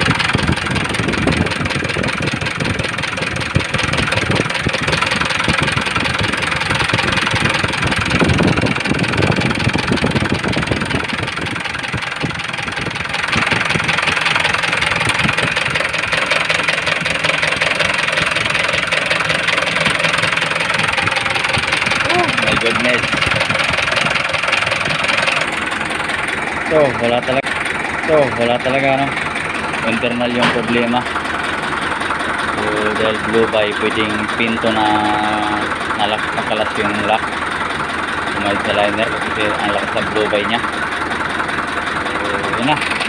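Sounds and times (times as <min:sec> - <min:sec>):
diesel engine knocking: 0:00.0 - 0:43.0.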